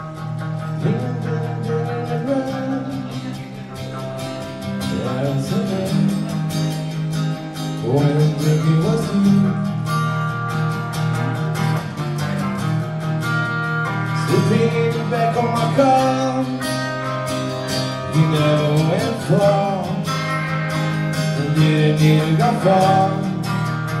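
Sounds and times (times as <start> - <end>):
bending guitar melody: 0.0 - 24.0
strummed guitar chords: 0.0 - 24.0.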